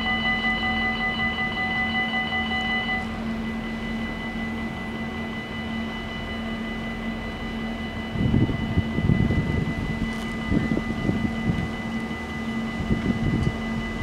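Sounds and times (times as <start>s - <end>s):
level crossing bells ringing: 0.0s - 14.0s.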